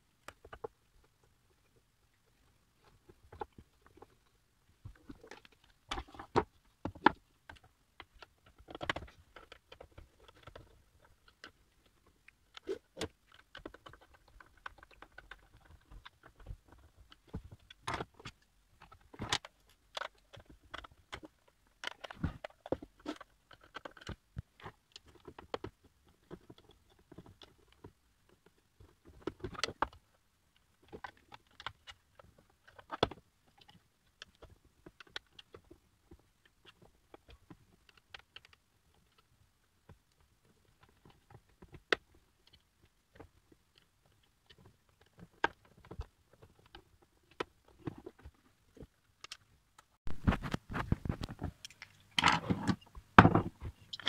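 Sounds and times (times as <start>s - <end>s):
plastic parts clicking and knocking: 4.8s - 54.0s.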